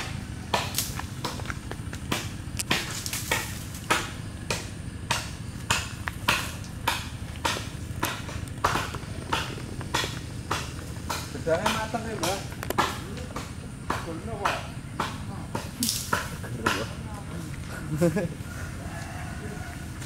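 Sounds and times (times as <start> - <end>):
axe chopping wood: 0.0 - 17.0.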